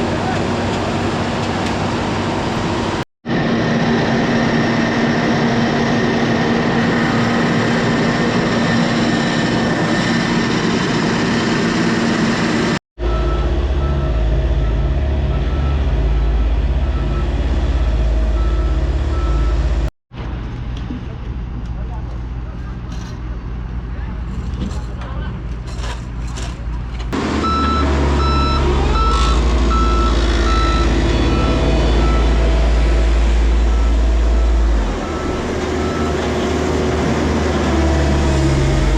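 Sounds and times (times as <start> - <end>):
heavy machinery engines running: 0.0 - 23.5, 26.7 - 38.9
deep engine rumble: 0.0 - 38.9.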